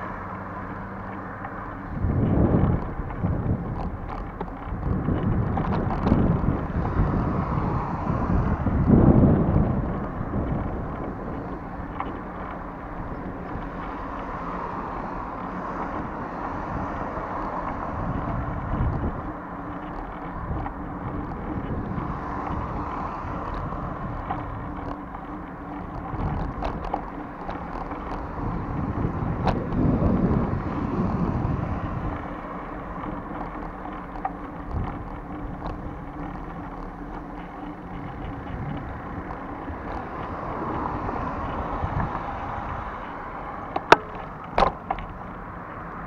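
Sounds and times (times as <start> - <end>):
street traffic: 0.0 - 46.0
wind rumbling on microphone: 0.0 - 46.0.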